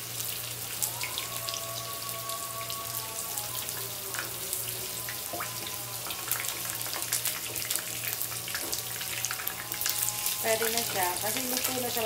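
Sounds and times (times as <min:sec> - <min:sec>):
tofu frying in oil: 0:00.0 - 0:12.0.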